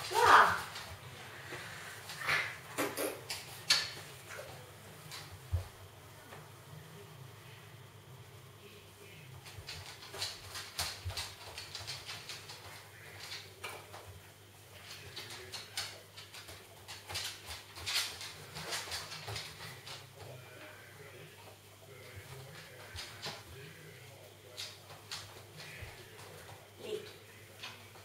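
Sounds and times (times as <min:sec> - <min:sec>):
dog paws clicking and tapping: 0:00.0 - 0:05.8, 0:09.4 - 0:20.4, 0:21.4 - 0:28.0.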